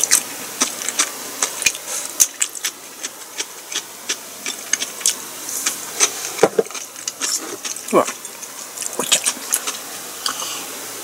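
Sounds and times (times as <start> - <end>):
wet mouth clicks and smacks: 0.0 - 10.5
person chewing food: 0.0 - 10.7.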